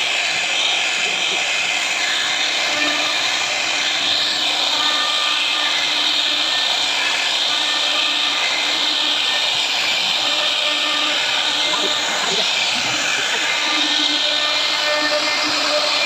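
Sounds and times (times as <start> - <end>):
cnc router cutting wood: 0.0 - 16.0.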